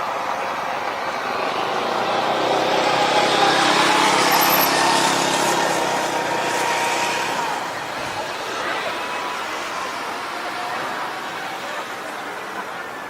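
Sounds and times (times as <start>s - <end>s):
plane passing with whining engine: 0.0s - 12.2s.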